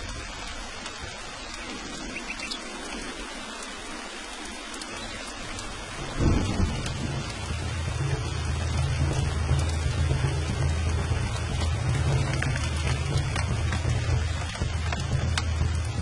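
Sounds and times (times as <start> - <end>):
steady rain hiss: 0.0 - 16.0
thunder rumbling: 0.0 - 16.0.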